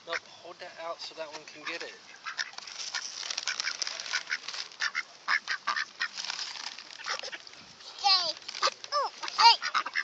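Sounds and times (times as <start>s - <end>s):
ducks raspy calls: 0.0s - 10.0s.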